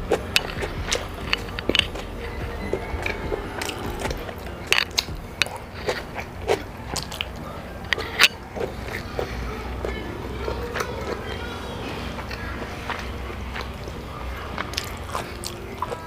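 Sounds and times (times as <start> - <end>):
chewing and wet mouth smacks: 0.0 - 16.0.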